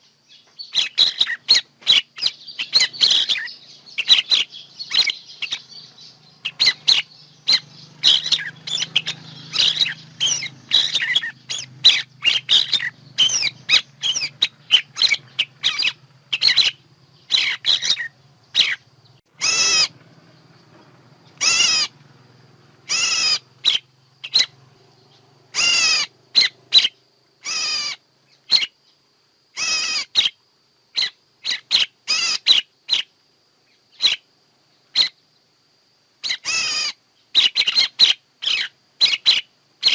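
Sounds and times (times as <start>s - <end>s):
faint low hum: 0.0s - 39.9s
songbird calls: 0.0s - 39.9s.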